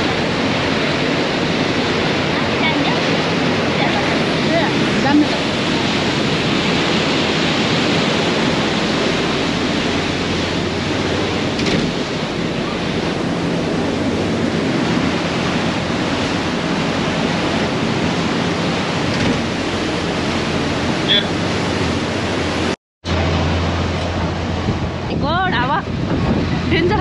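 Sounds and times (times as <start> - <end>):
churning water: 0.0 - 27.0
wind buffeting microphone: 0.0 - 27.0
wind rushing: 3.2 - 27.0.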